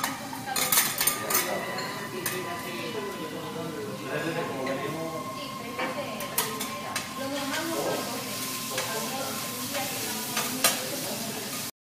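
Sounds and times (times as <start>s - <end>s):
food sizzling on a griddle: 0.0s - 11.7s.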